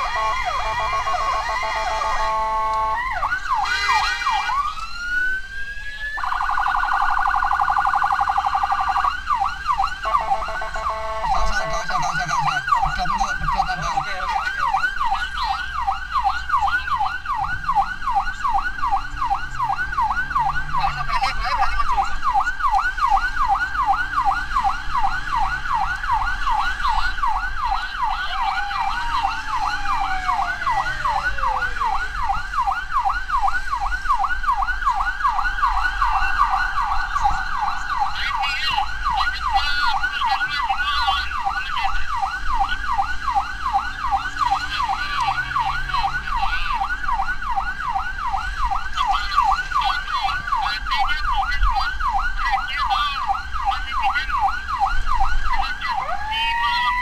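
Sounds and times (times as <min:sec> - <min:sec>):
siren in fast yelp: 0:00.0 - 0:57.0.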